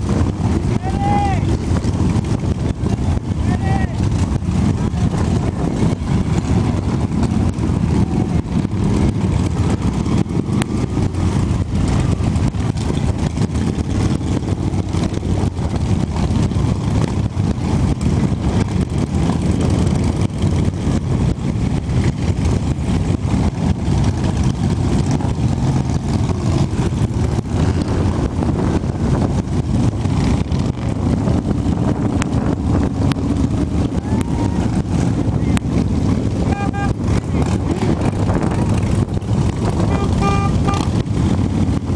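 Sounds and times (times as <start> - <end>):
motorcycle engines running: 0.0 - 41.9.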